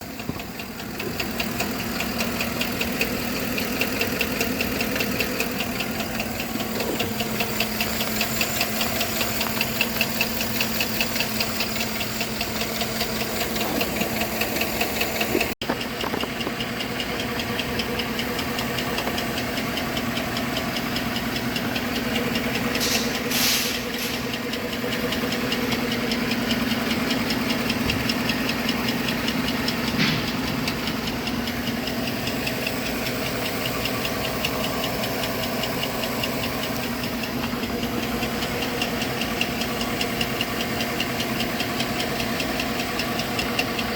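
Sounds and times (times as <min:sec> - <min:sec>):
engine idling with regular knock: 0:00.0 - 0:43.9.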